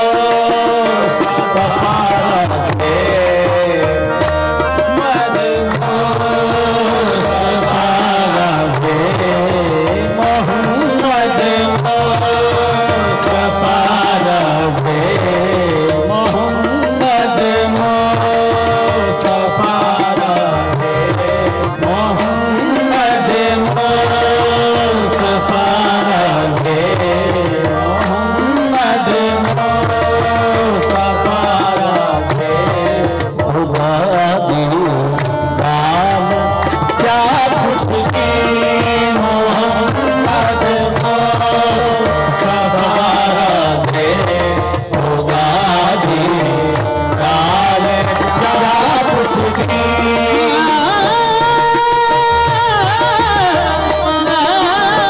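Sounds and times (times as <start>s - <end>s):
person singing: 0.0s - 55.0s
tabla drumming: 0.0s - 55.0s.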